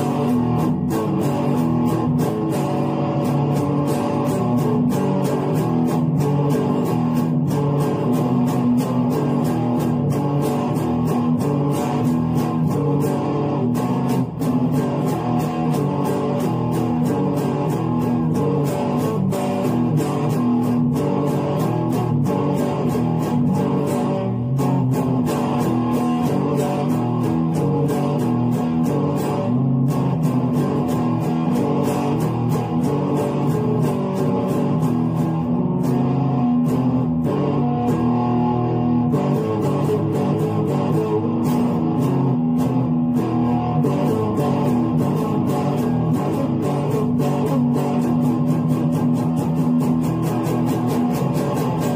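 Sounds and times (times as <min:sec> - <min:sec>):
electric guitar: 0:00.0 - 0:51.9.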